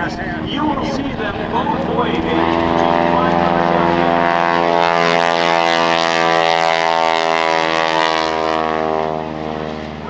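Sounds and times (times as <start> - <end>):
propeller plane droning: 0.0 - 10.0.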